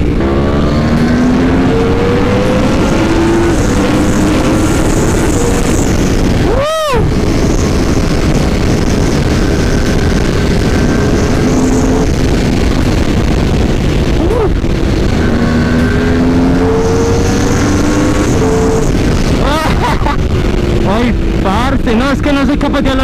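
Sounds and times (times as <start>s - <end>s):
motorcycle engine at high speed: 0.0s - 23.0s
wind rush on microphone: 0.0s - 23.0s.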